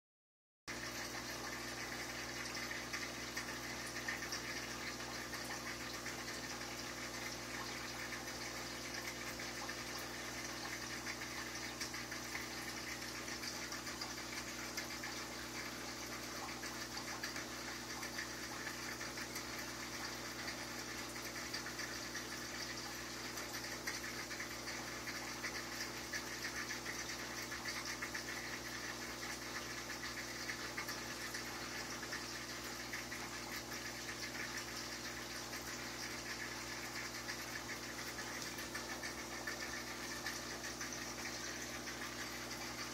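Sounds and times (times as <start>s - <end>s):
aquarium pump humming: 0.7s - 42.9s.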